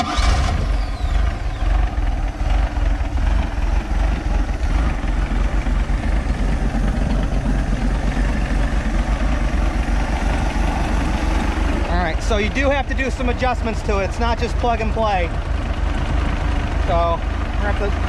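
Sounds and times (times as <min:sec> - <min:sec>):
boat engine starting and running: 0:00.0 - 0:18.0.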